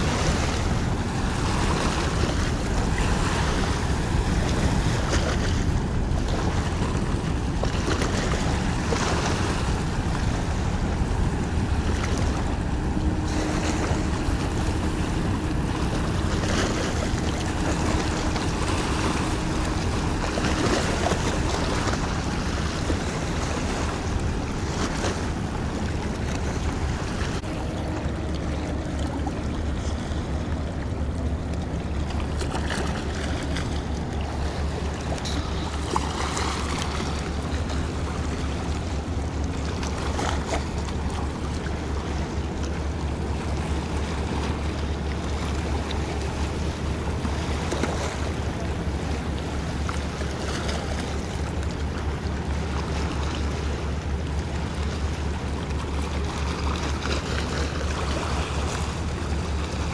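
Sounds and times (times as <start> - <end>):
low rumble: 0.0 - 59.9
wind buffeting microphone: 0.0 - 59.9.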